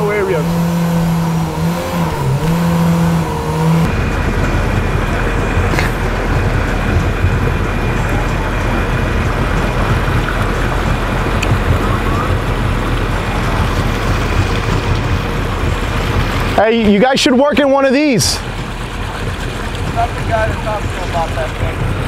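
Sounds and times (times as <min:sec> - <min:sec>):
rushing noise over low rumble: 0:00.0 - 0:17.8, 0:18.4 - 0:22.0
boat engine and jet drive: 0:00.0 - 0:22.0.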